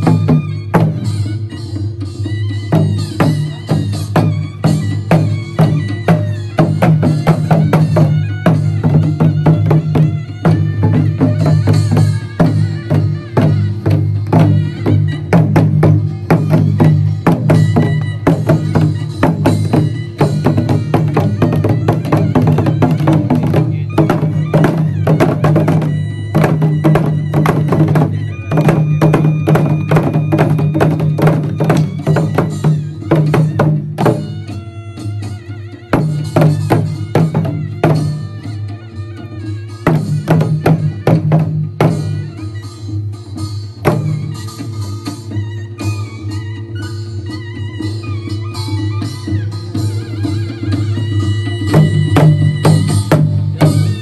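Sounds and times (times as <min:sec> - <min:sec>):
folk music with low tones: 0:00.0 - 0:54.0.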